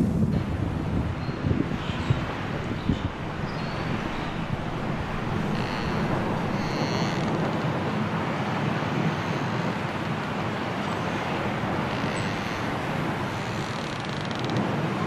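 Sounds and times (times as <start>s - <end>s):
strong wind blowing through trees: 0.0s - 15.0s.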